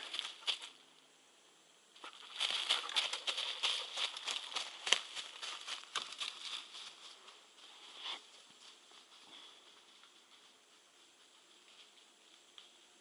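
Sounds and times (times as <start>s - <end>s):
footsteps crunching dry grass: 0.0s - 0.8s, 2.0s - 12.0s.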